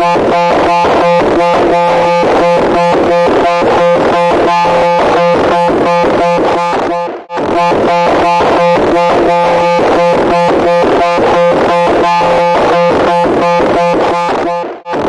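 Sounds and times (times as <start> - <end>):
pulsing electronic buzzing tone: 0.0 - 15.0.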